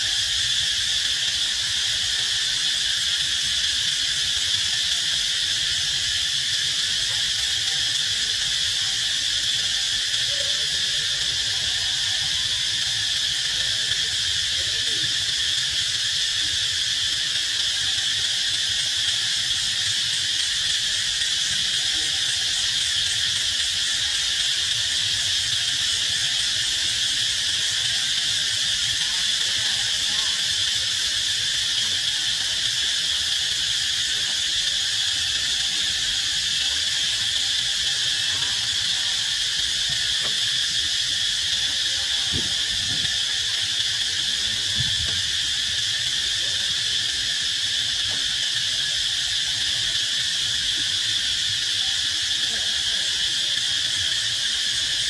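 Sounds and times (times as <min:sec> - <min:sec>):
insects chorus droning: 0:00.0 - 0:55.0.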